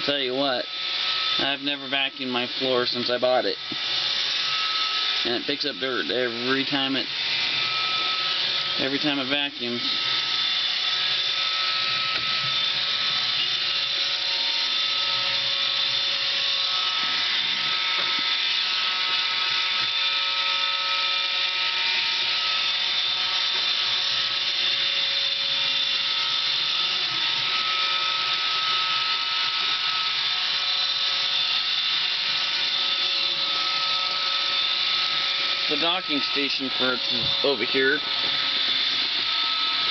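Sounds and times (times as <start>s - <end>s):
robot vacuum motor whine: 0.0s - 39.9s.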